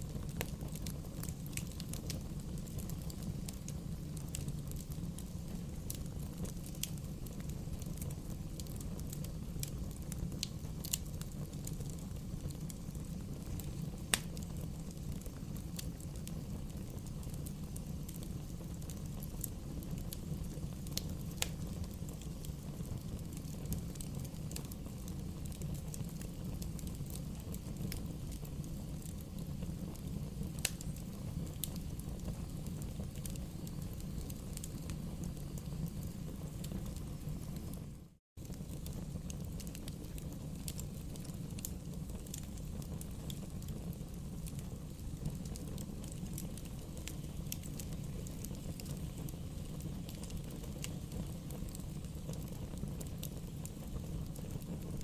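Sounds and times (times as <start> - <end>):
bonfire crackling and popping: 0.0 - 55.0
low rumble of fire: 0.0 - 55.0.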